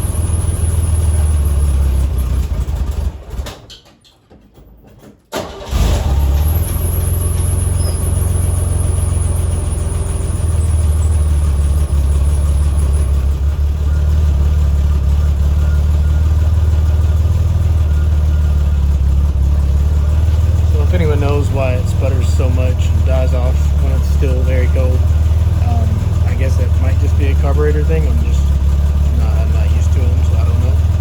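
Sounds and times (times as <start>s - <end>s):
car engine running loud: 0.0s - 3.0s, 5.7s - 31.0s.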